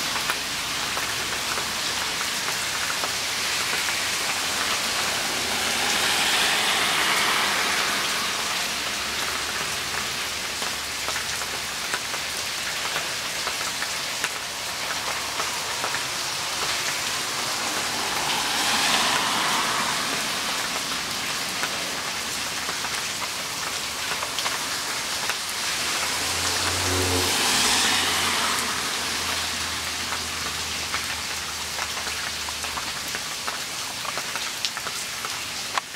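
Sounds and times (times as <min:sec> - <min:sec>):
rain falling steadily: 0:00.0 - 0:35.9.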